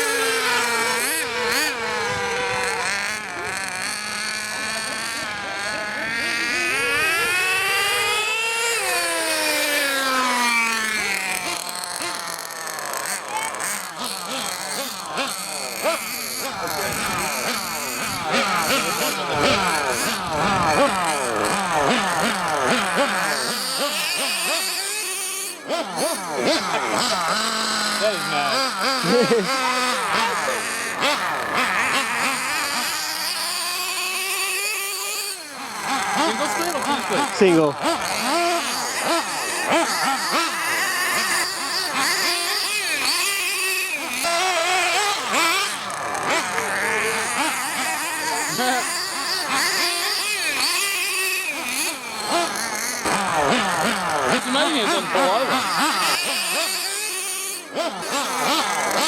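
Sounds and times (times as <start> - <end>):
small nitro engines revving: 0.0 - 59.0.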